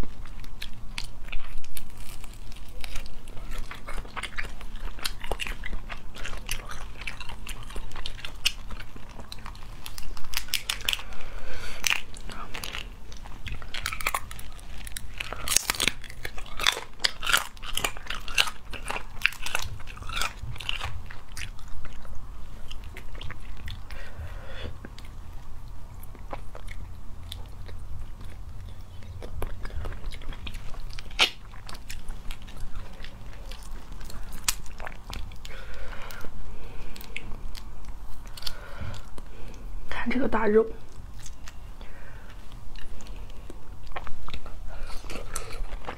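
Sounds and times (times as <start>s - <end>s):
wet chewing: 0.0s - 39.7s, 40.8s - 45.9s.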